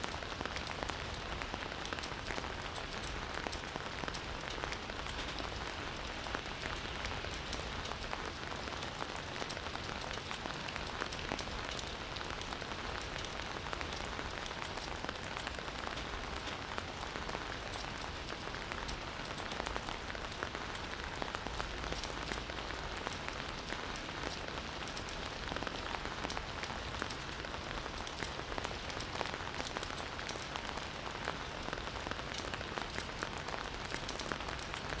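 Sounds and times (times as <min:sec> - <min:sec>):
campfire crackling and popping: 0:00.1 - 0:35.0.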